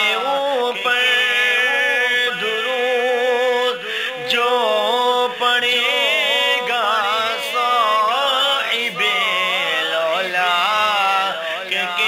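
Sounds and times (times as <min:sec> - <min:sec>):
person singing devotional song: 0:00.0 - 0:12.0.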